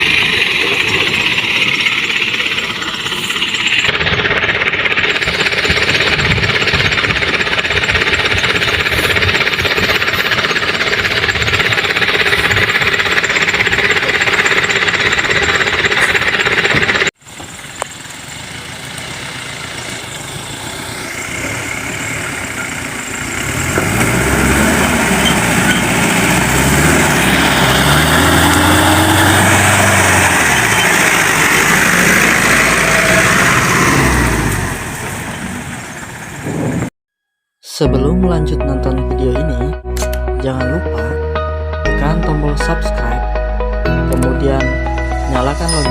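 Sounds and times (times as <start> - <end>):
vehicle engine revving: 0.0 - 36.9.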